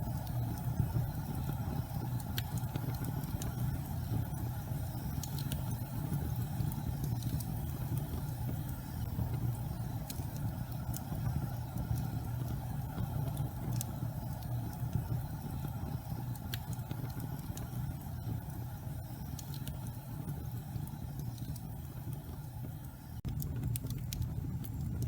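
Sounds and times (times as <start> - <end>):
faint crackles: 0.0 - 25.0
gas fire flames rumbling: 0.0 - 25.0.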